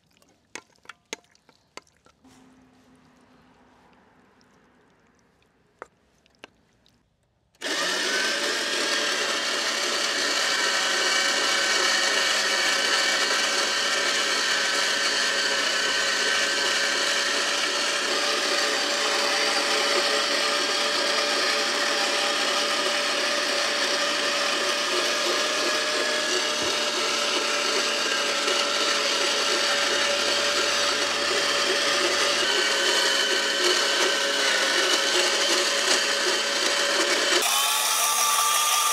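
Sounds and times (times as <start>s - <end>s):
electric motor whirring: 7.6s - 38.9s.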